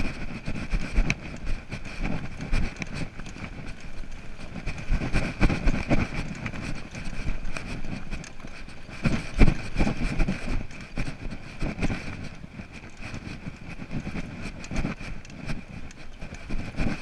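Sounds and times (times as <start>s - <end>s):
bike frame rattling: 0.0s - 17.0s
tyre and wind noise: 0.0s - 17.0s.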